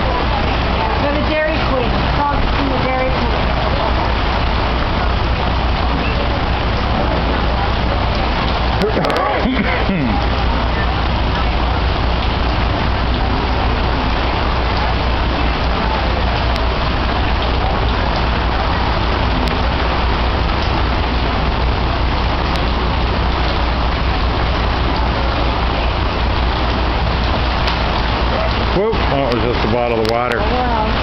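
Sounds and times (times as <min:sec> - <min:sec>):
heavy rain on pavement and tent: 0:00.0 - 0:31.0.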